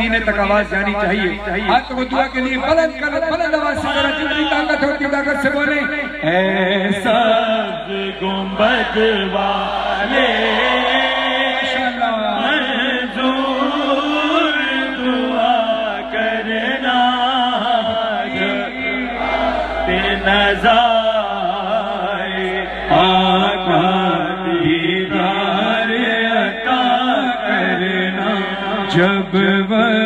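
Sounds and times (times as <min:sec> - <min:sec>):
male crowd singing refrain: 0:00.0 - 0:30.0
man reciting lament: 0:00.0 - 0:30.0.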